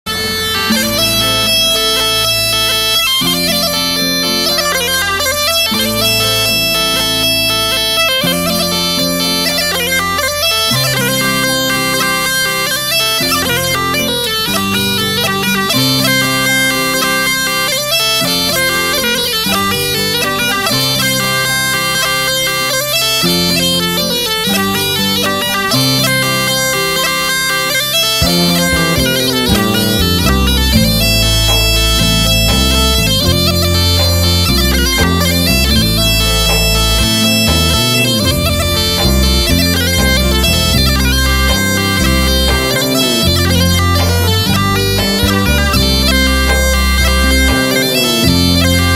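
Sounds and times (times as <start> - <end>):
bagpipe melody: 0.0 - 48.9.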